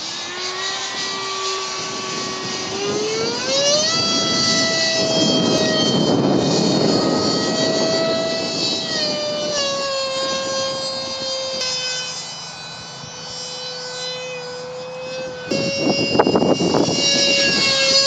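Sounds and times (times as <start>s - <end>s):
electric ducted fan whining: 0.0s - 18.0s.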